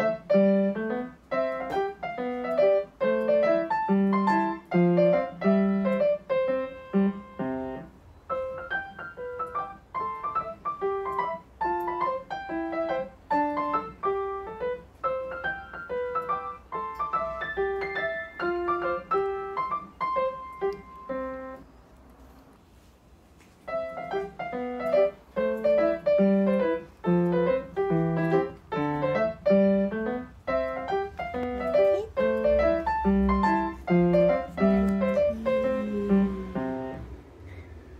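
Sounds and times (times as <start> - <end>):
background piano music: 0.0 - 21.9, 23.6 - 37.9.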